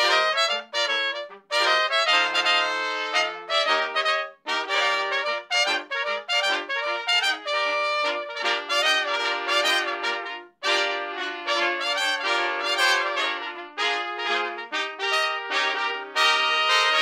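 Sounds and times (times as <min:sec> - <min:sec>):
trumpets playing in harmony: 0:00.0 - 0:17.0.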